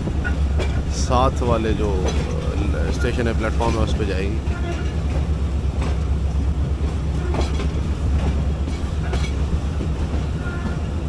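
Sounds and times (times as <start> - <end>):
train rumbling: 0.0 - 11.0
train wheels clacking: 0.0 - 11.0.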